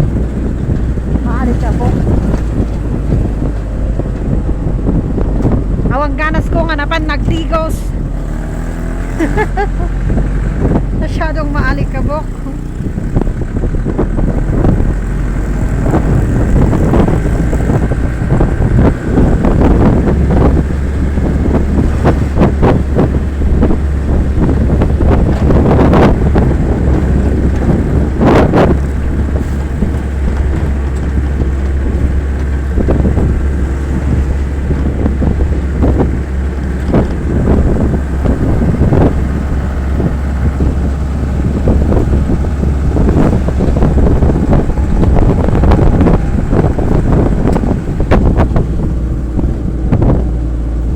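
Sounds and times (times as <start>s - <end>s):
knocks and rattles: 0.0s - 50.4s
moving vehicle rumble: 0.0s - 50.9s
wind buffeting microphone: 0.0s - 50.9s.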